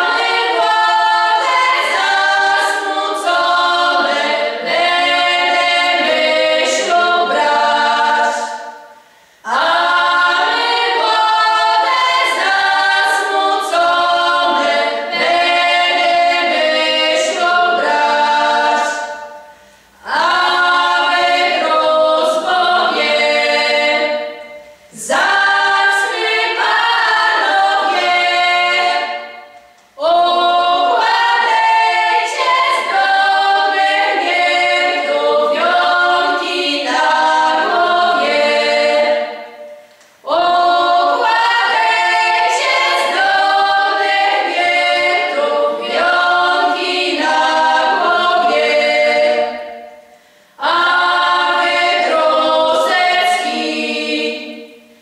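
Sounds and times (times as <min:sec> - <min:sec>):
women singing a cappella: 0:00.0 - 0:55.0.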